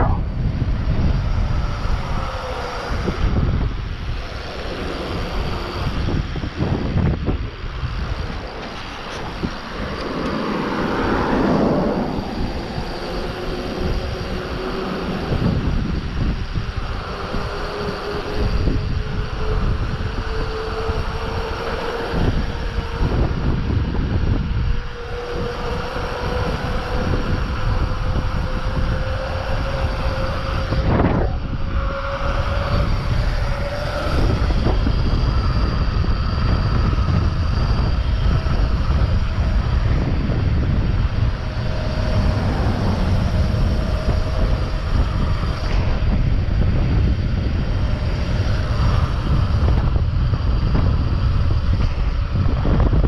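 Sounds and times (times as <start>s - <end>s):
wind on microphone: 0.0s - 53.0s.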